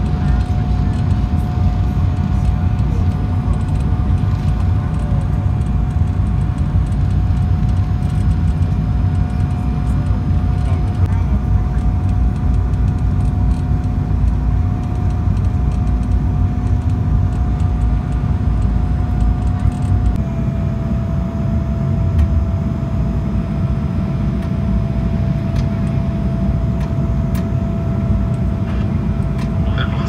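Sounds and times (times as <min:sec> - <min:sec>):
airliner cabin rumble: 0:00.0 - 0:30.0
jet engine whine: 0:00.0 - 0:30.0.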